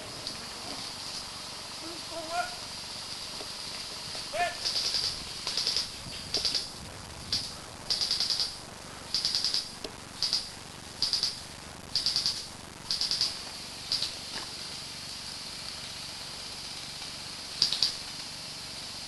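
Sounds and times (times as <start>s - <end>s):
cricket chirping: 0.0s - 16.8s, 17.4s - 18.1s.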